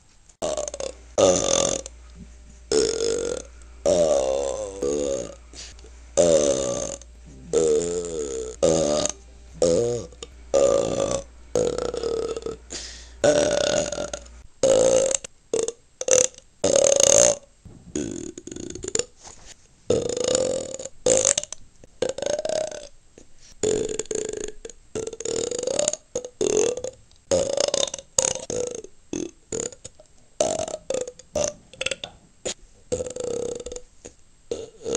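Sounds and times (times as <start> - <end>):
low background hum: 0.0 - 34.9
person burping: 0.4 - 19.1, 19.9 - 22.9, 23.6 - 34.9.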